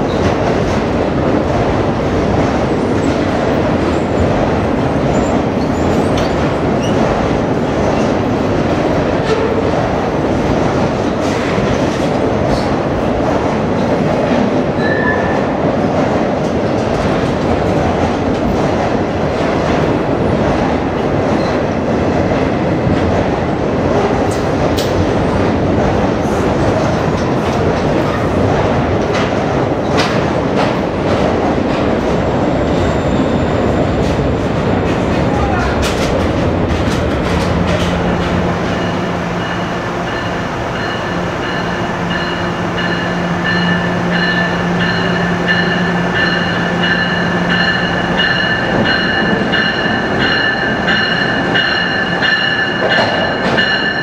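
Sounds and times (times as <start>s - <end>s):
steel wheels rumbling: 0.0s - 54.0s.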